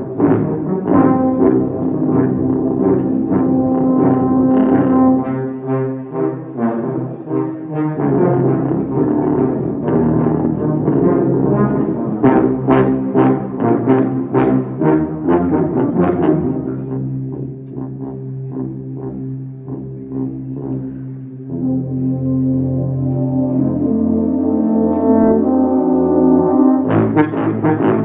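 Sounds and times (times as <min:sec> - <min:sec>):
tuba and euphonium ensemble: 0:00.0 - 0:28.0.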